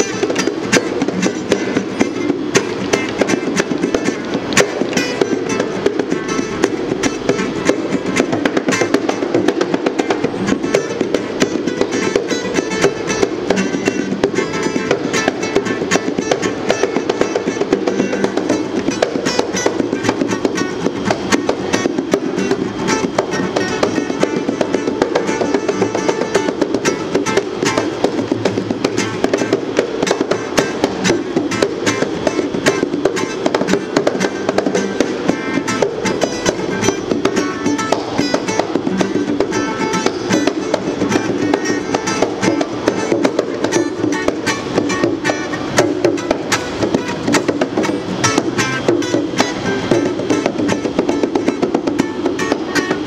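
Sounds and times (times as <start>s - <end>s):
acoustic guitar strumming: 0.0s - 53.0s
bongos played by hand: 0.0s - 53.0s.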